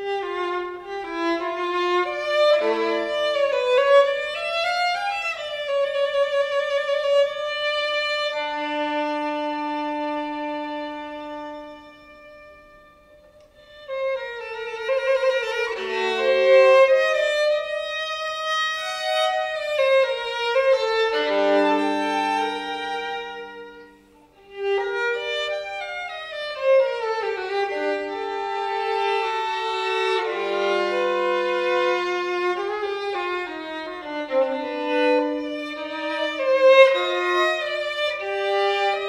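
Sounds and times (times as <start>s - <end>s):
violin playing classical piece: 0.0s - 39.0s.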